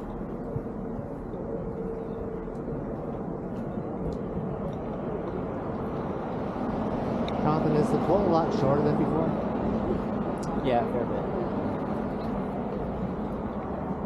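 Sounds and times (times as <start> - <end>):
faint hum: 0.0 - 14.0
outdoor rumble: 0.0 - 14.0.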